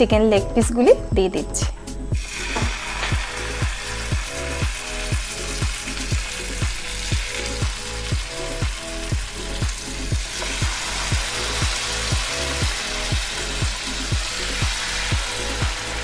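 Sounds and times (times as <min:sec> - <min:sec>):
background music with steady beat: 0:00.0 - 0:16.0
chicken sizzling in a frying pan: 0:02.1 - 0:16.0.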